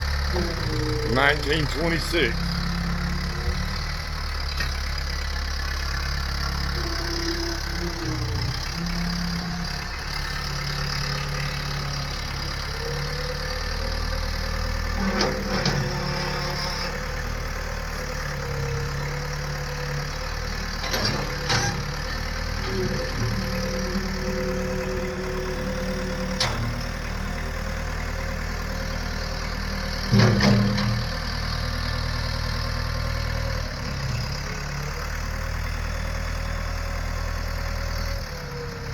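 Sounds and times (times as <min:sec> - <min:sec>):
machinery engine idling: 0:00.0 - 0:38.9.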